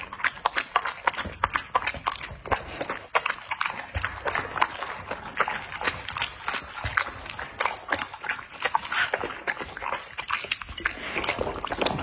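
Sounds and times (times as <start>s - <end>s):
dog crunching and chewing food: 0.0s - 12.0s.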